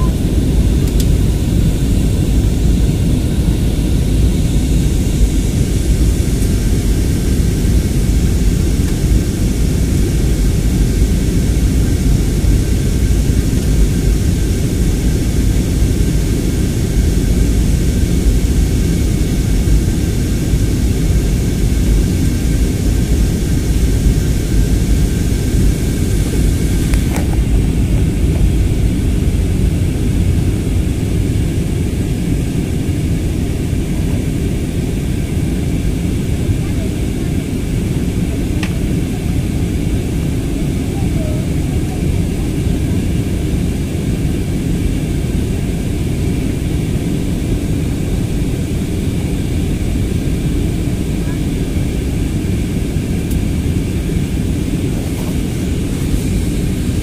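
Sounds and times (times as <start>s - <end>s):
faint steady whine: 0.0s - 57.0s
jet engines and rushing air: 0.0s - 57.0s.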